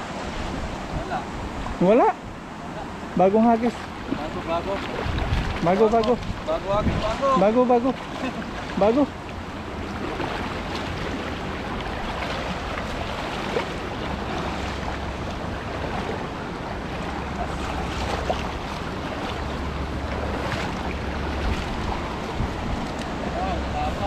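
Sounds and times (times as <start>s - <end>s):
flowing water rushing: 0.0s - 24.0s
wind buffeting microphone: 3.9s - 24.0s.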